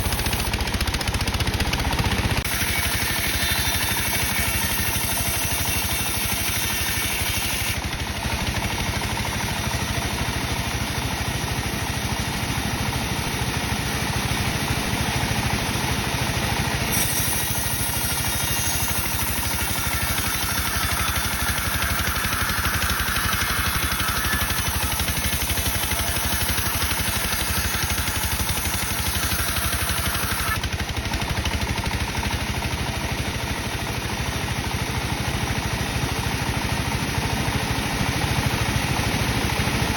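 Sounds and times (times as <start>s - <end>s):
engine running: 0.0s - 6.4s, 7.6s - 39.9s
sawmill saw cutting wood: 0.0s - 39.9s.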